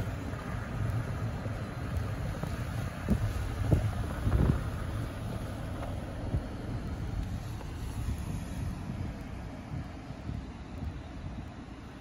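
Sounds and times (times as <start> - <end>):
car road rumble: 0.0 - 12.0
wind buffeting microphone: 0.0 - 12.0.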